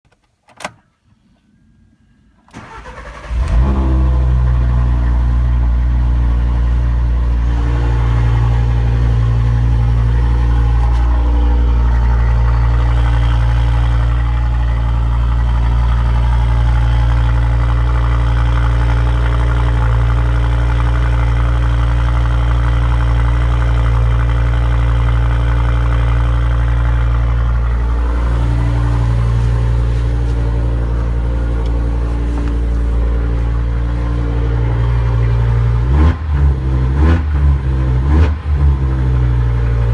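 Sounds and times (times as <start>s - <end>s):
car engine idling: 1.0s - 39.9s.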